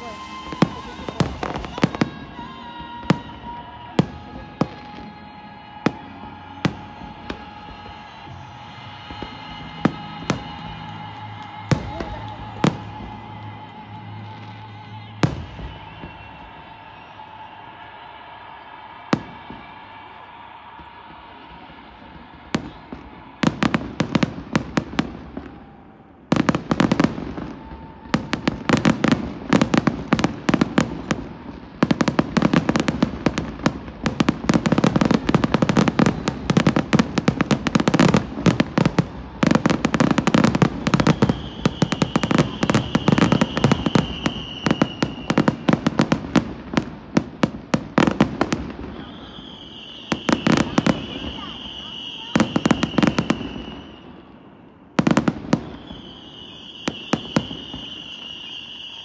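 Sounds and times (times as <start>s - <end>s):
fireworks bangs and crackling: 0.0s - 59.0s
high whistle of fireworks: 0.0s - 59.0s.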